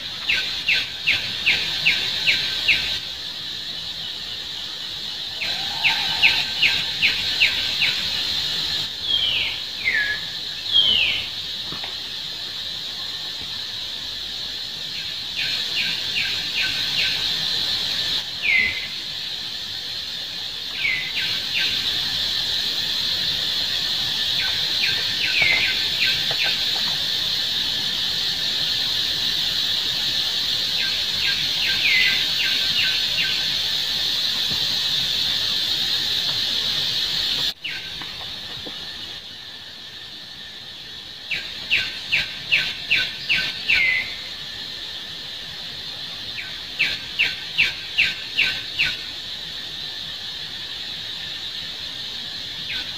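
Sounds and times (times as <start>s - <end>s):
cicada drone: 0.0s - 52.9s.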